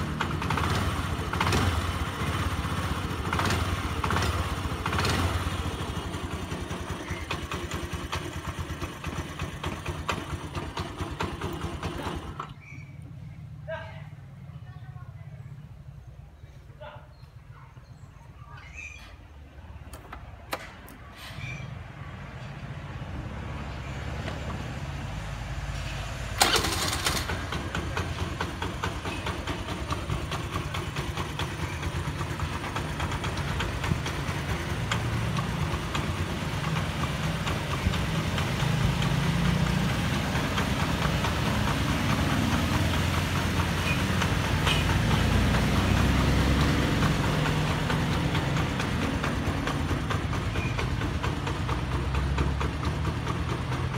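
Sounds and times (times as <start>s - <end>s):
scooter engine idling: 0.0s - 16.2s, 26.4s - 53.9s.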